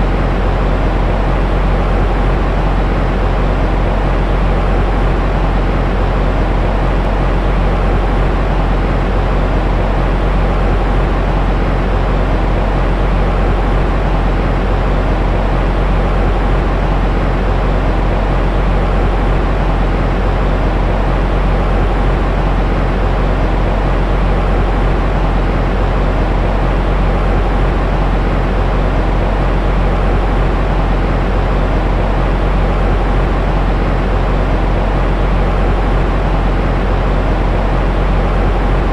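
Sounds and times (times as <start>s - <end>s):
steady rushing rumble noise: 0.0s - 38.9s.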